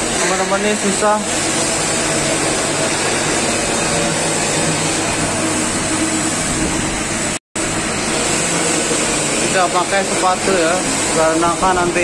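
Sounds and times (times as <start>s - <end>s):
welding hiss and hum: 0.0s - 12.0s.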